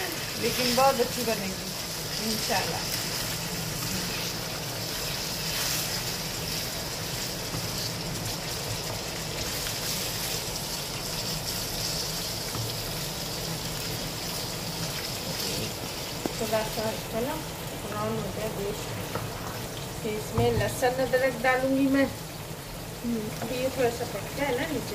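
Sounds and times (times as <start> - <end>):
meat sizzling in hot oil: 0.0 - 24.9.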